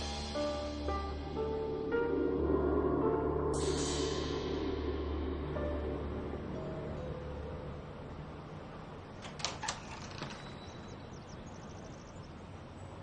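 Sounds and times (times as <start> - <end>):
faint low hum: 1.2 - 13.0.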